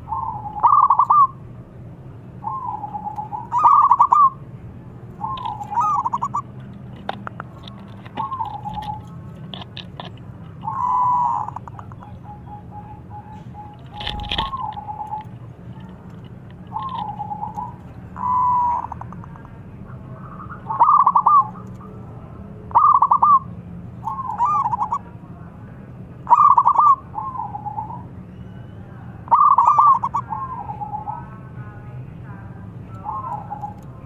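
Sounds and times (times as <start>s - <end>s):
dove cooing: 0.0s - 1.4s, 2.4s - 4.4s, 5.2s - 22.0s, 22.7s - 25.1s, 26.2s - 28.1s, 29.2s - 31.5s, 32.9s - 34.0s.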